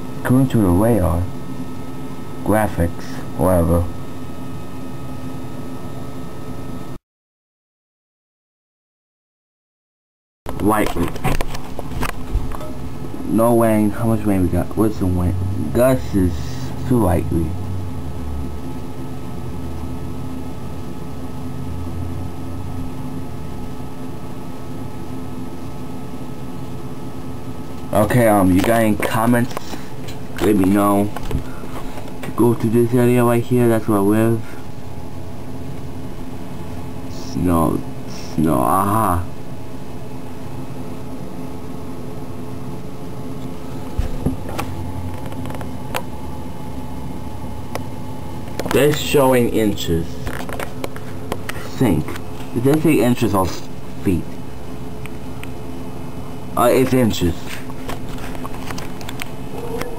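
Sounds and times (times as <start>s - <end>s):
computer humming: 0.0s - 7.0s, 10.5s - 59.9s.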